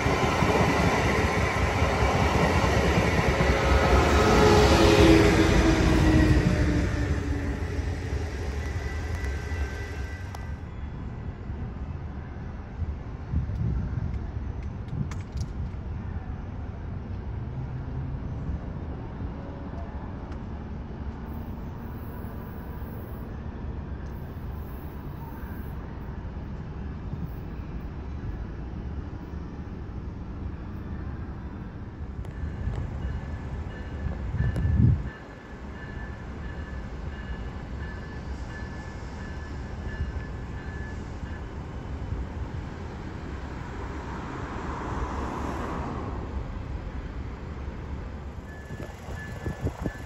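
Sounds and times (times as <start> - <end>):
distant train rumble: 0.0 - 50.0
traffic noise: 0.0 - 50.0.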